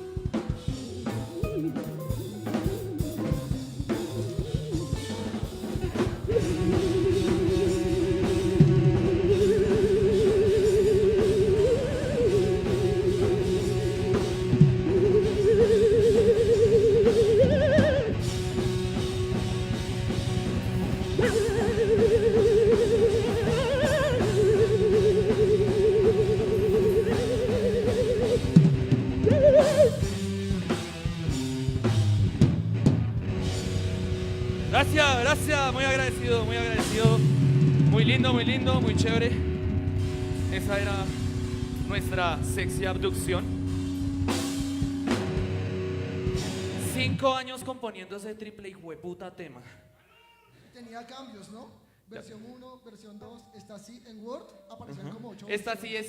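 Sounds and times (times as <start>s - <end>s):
rapid bass drum strokes: 0.0s - 47.2s
wavering electric guitar lead: 0.0s - 47.2s
heavy metal band playing: 0.0s - 47.3s.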